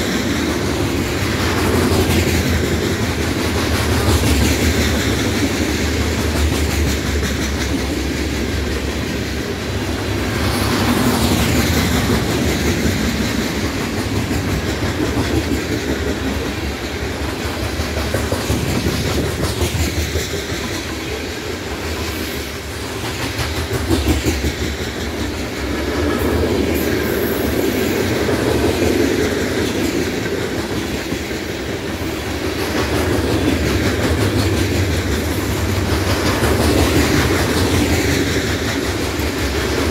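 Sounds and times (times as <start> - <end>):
freight train wheels rumbling: 0.0 - 39.9
wheels clicking over rail joints: 0.0 - 39.9.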